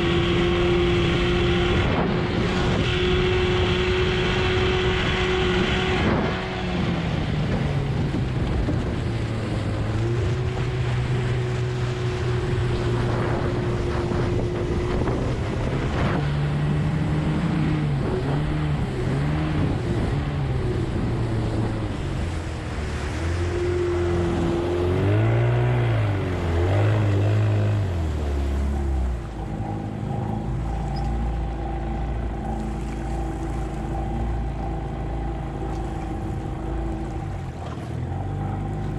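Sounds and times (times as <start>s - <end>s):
outboard motor running: 0.0s - 38.9s
water rushing along hull: 0.0s - 38.9s.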